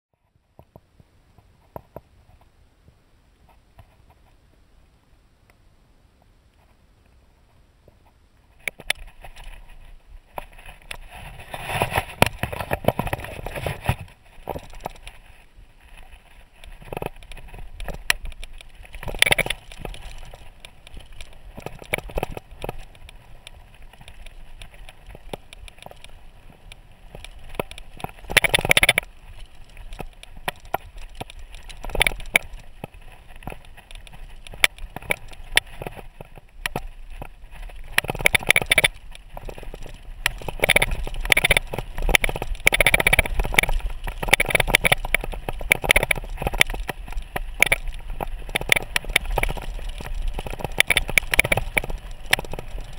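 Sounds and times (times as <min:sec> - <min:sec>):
bike tyre noise on dirt: 0:06.0 - 0:52.9
bike clicking and rattling: 0:08.6 - 0:52.9.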